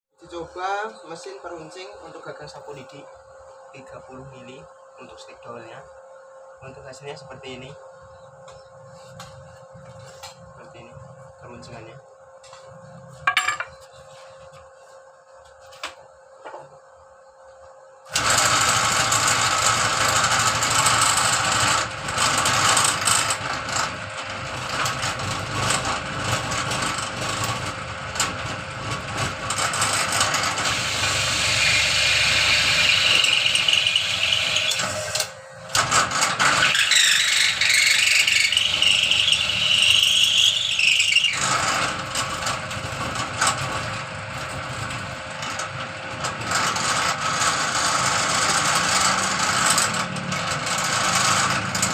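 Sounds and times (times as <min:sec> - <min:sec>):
high machine whine: 0:00.2 - 0:51.9
machine whirring with high squeal: 0:00.3 - 0:12.0, 0:17.2 - 0:51.9.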